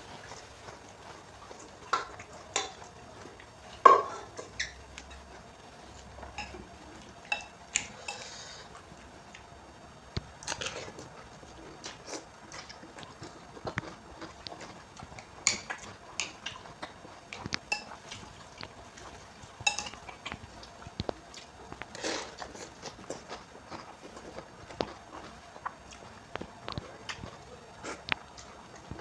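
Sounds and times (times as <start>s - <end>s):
chewing and crunching noodles: 0.0s - 9.5s, 10.4s - 29.0s.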